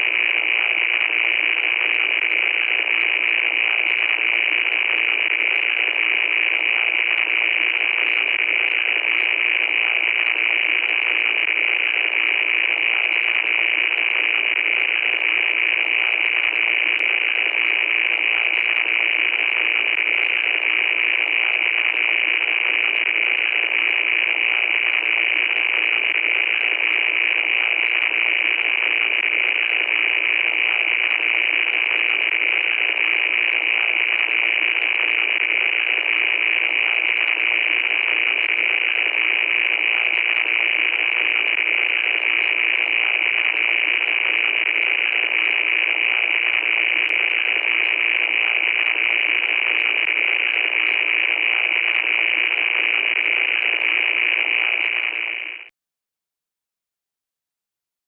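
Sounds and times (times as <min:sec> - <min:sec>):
static hiss: 0:00.0 - 0:55.6.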